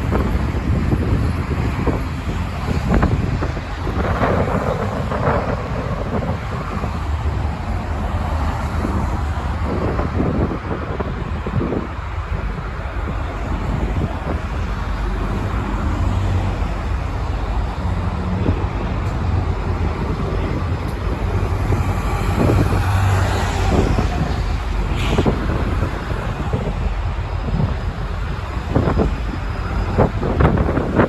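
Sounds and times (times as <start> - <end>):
traffic passing: 0.0 - 31.0.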